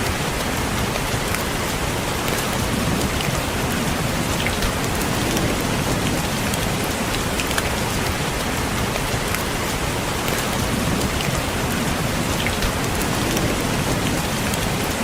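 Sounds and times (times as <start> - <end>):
hiss of rainfall: 0.0 - 15.0.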